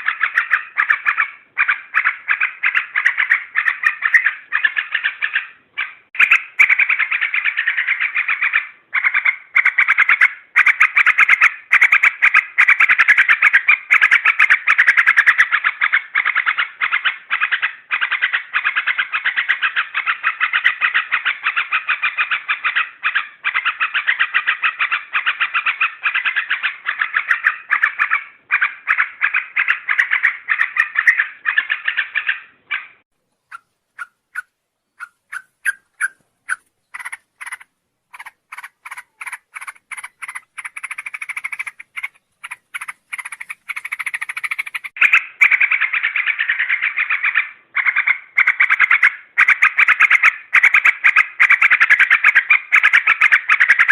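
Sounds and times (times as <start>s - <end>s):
bird chattering calls: 0.0s - 53.9s.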